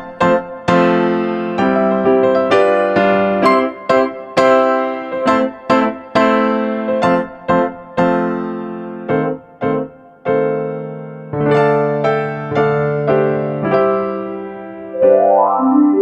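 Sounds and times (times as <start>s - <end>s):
slow electric piano melody: 0.0s - 16.0s.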